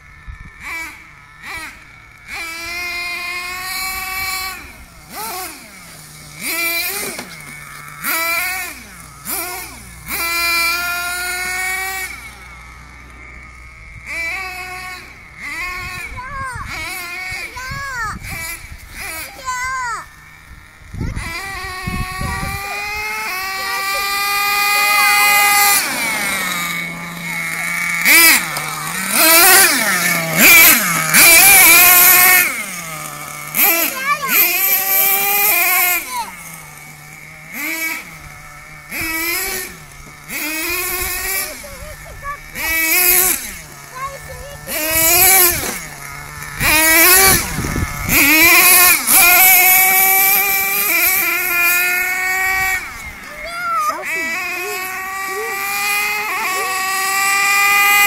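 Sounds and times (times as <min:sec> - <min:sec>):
nitro engine revving: 0:00.0 - 0:58.0.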